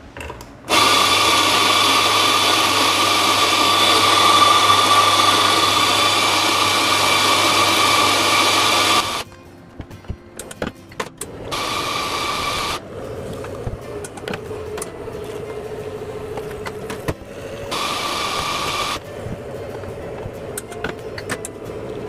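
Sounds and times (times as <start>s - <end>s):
electric coffee grinder grinding: 0.7s - 9.3s, 11.5s - 21.1s.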